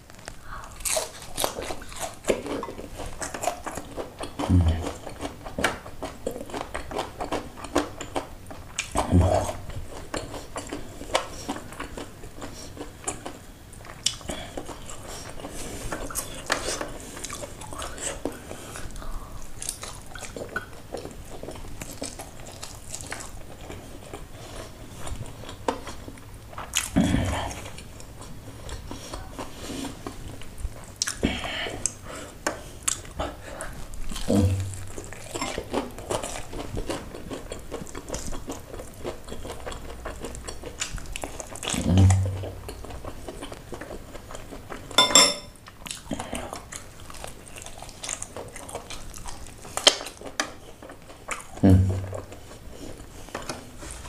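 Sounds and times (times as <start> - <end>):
chewing crispy chicken: 0.0 - 54.0.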